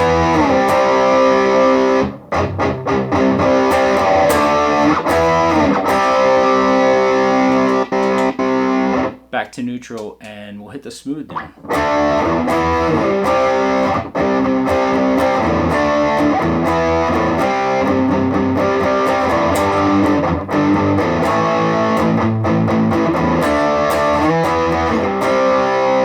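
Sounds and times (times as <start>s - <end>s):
distorted electric guitar riff: 0.0s - 9.3s, 11.3s - 26.0s.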